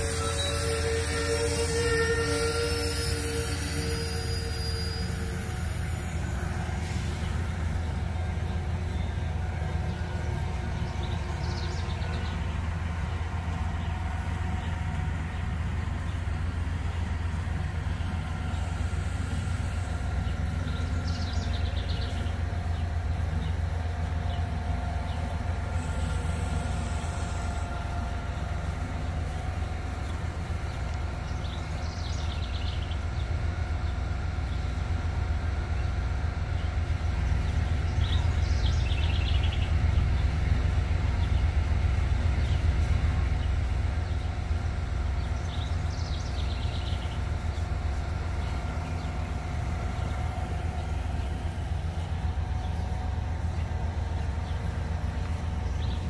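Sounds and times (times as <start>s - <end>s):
freight train cars rumbling past: 0.0s - 56.0s.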